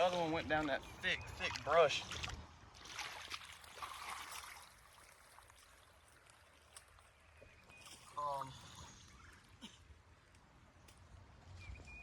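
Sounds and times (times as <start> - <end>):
floodwater trickling and sloshing: 0.0 - 11.6.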